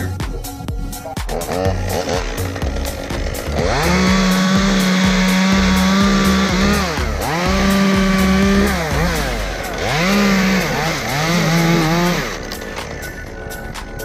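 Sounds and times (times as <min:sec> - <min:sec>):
chainsaw revving: 0:01.2 - 0:13.2.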